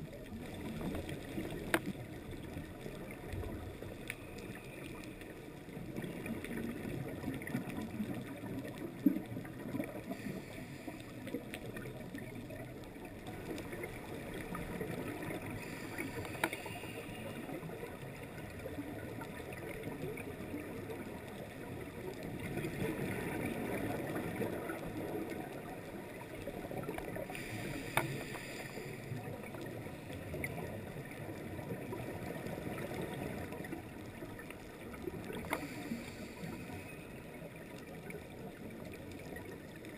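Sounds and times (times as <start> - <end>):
underwater scuba bubbles: 0.0 - 39.9.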